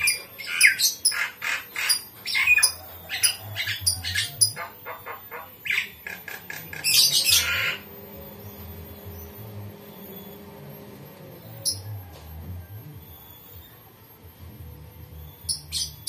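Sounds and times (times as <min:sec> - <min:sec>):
birds squawking: 0:00.0 - 0:12.2, 0:15.2 - 0:16.0.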